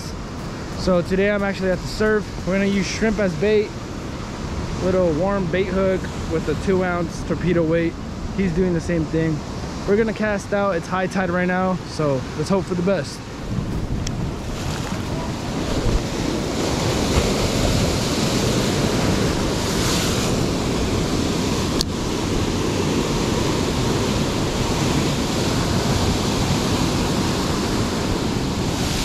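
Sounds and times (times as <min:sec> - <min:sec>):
wind buffeting microphone: 0:00.0 - 0:10.6, 0:12.9 - 0:29.0
ocean surf breaking on rocks: 0:00.0 - 0:29.0.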